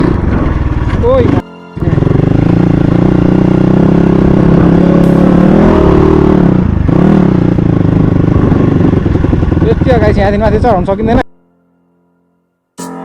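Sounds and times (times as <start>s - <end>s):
dirt bike engine running: 0.0s - 10.9s.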